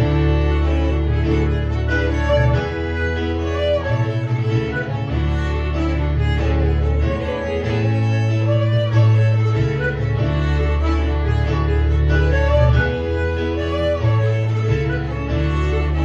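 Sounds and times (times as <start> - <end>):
fiddles bowing a melody: 0.0 - 16.0
stage piano: 0.0 - 16.0
sustained bass notes: 0.0 - 16.0.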